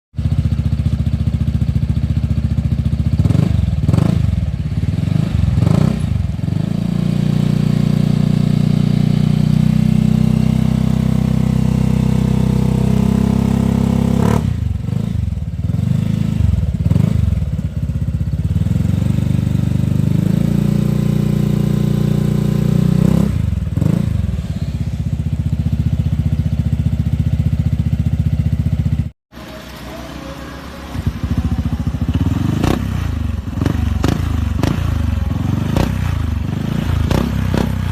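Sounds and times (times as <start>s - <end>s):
scooter engine idling: 0.2s - 37.9s
scooter engine revving: 0.2s - 37.9s.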